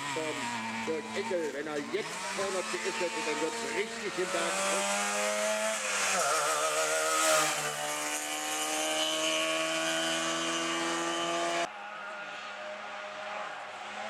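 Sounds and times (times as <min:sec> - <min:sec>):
distant rally car engine: 0:00.0 - 0:14.0
rally car engine at high revs: 0:00.0 - 0:14.0.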